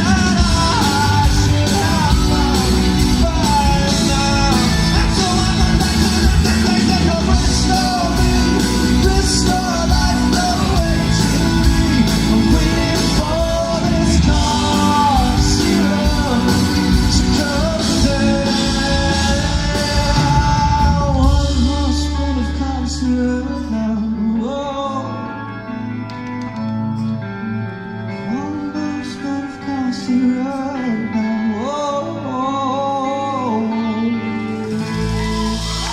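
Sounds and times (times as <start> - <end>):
man singing lead: 0.0 - 26.0, 27.6 - 35.9
live band playing: 0.0 - 35.9.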